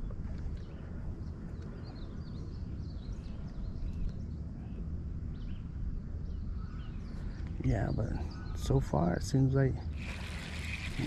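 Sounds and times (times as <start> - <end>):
low rumble of wind: 0.0 - 11.0
small birds chirping: 0.0 - 11.0.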